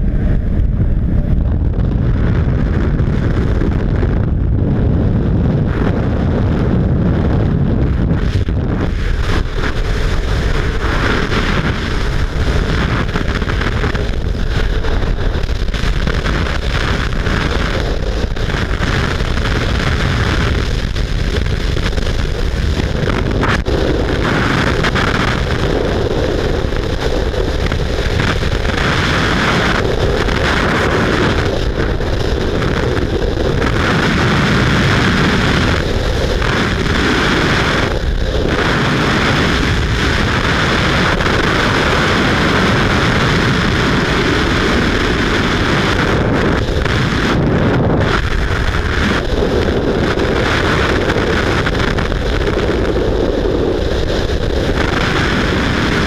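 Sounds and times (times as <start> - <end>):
airplane engine roar: 0.0 - 56.0
wind buffeting microphone: 0.0 - 56.0.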